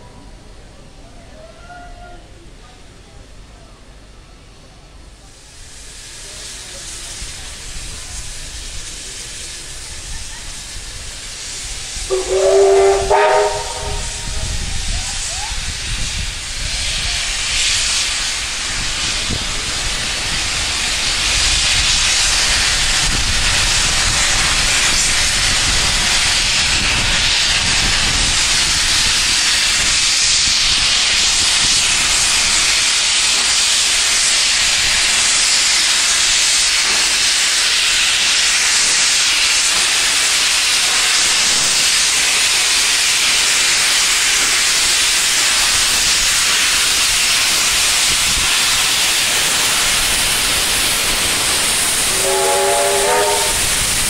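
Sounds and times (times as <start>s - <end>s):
loud steam hiss: 4.9s - 54.0s.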